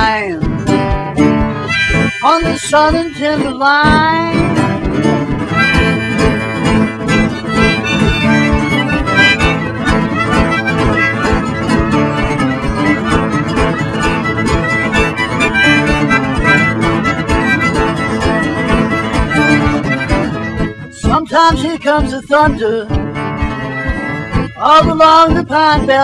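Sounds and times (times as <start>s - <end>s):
country band playing: 0.0s - 26.0s.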